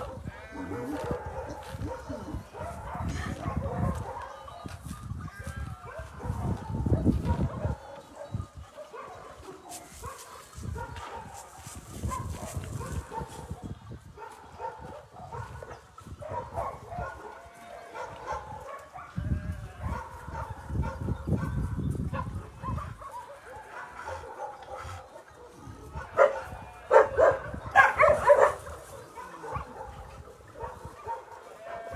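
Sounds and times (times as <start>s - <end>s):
many dogs barking and yipping: 0.0s - 31.9s.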